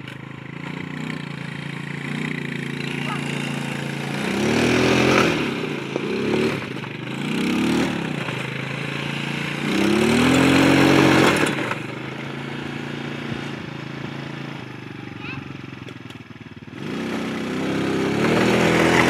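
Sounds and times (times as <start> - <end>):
quad bike engine revving: 0.0 - 19.0.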